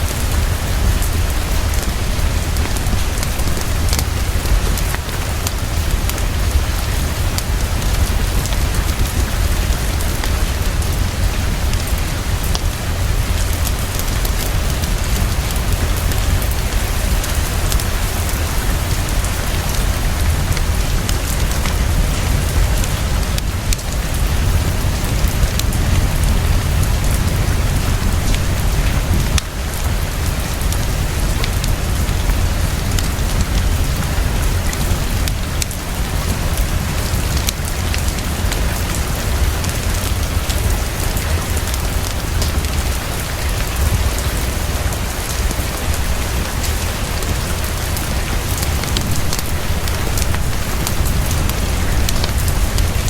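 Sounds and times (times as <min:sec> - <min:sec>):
heavy rainfall: 0:00.0 - 0:53.0.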